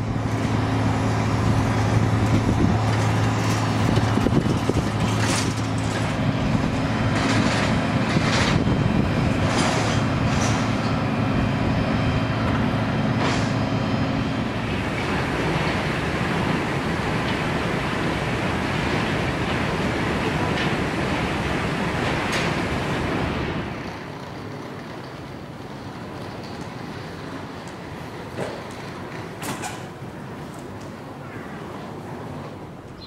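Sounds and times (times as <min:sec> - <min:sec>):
low engine hum: 0:00.0 - 0:29.4
baggage hall rumble: 0:00.0 - 0:32.9.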